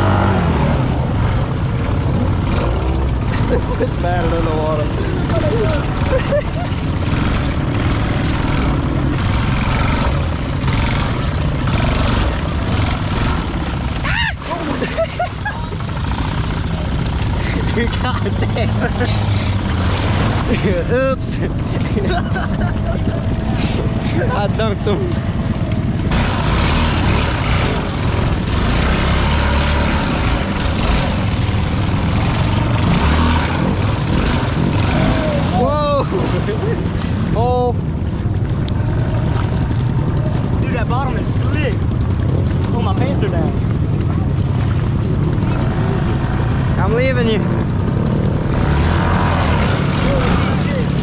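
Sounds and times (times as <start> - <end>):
atv engine running: 0.0 - 51.0
splashing through mud and water: 0.1 - 46.8, 47.4 - 51.0.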